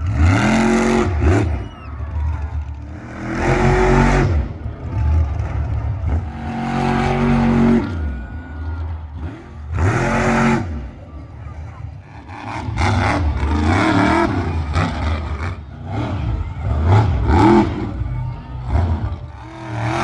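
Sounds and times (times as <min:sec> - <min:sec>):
monster truck engines revving: 0:00.0 - 0:20.0.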